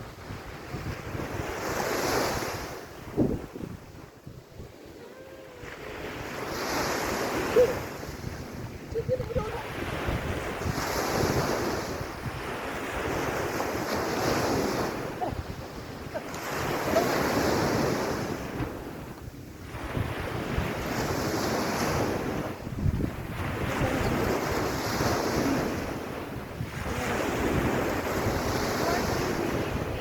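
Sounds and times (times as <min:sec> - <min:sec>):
small waves breaking on beach: 0:00.0 - 0:30.0
wind rumbling on microphone: 0:00.0 - 0:30.0.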